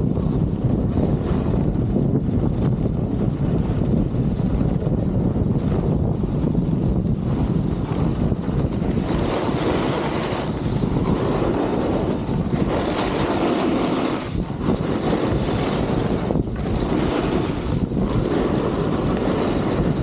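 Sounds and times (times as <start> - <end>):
snowboard sliding over snow: 0.0 - 20.0
wind rumbling on microphone: 0.0 - 20.0.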